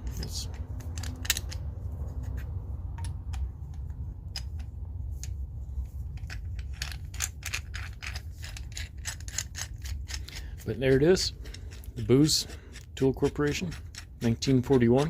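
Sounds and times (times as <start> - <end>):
steady low rumble: 0.0 - 14.9
metal wrench clicking and scraping: 0.0 - 15.0.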